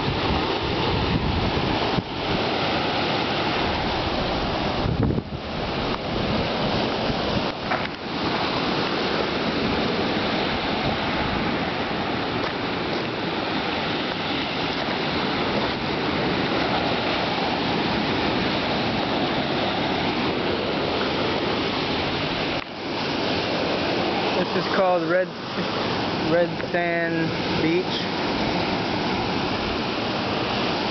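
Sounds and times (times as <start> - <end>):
ocean surf breaking on rocks: 0.0 - 30.9.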